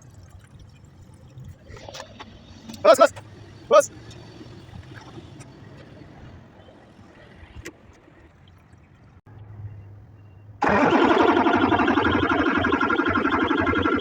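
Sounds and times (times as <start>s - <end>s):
truck engine hum: 0.6s - 14.0s.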